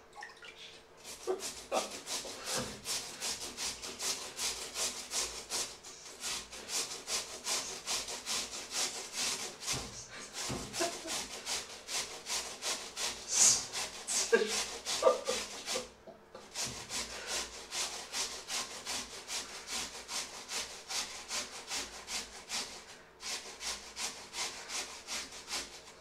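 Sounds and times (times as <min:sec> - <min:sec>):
potatoes rasping on a metal grater: 0:01.0 - 0:26.0.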